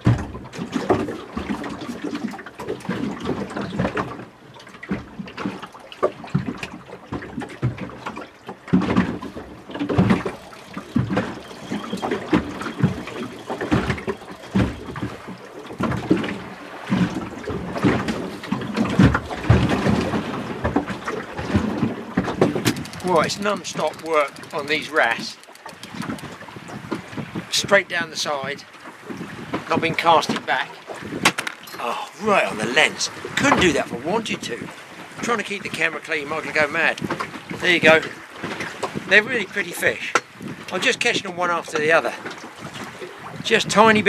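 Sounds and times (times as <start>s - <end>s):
water splashing against boat hull: 0.0s - 44.0s.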